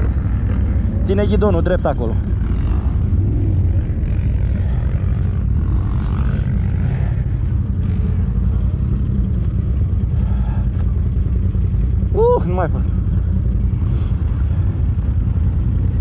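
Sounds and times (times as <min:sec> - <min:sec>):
atv engine rumbling: 0:00.0 - 0:16.0.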